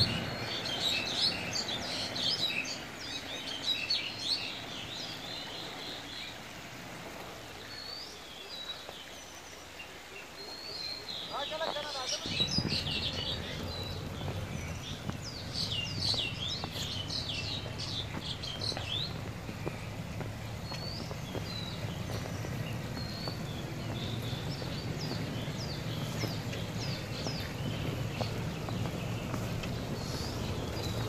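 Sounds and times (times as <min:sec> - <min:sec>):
low hum of vehicle engine: 0:00.0 - 0:08.2, 0:12.1 - 0:31.0
small birds chirping: 0:00.0 - 0:31.0.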